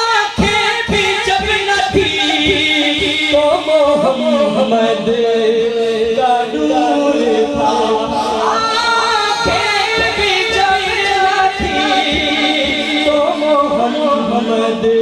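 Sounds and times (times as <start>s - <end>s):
solo voice singing: 0.0s - 15.0s.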